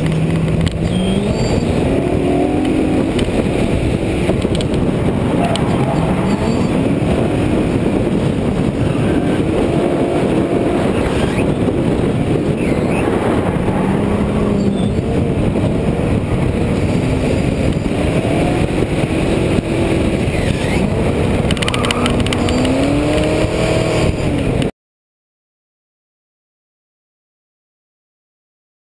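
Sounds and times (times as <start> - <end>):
car engine revving: 0.0 - 24.7
heavy rushing noise: 0.0 - 24.7.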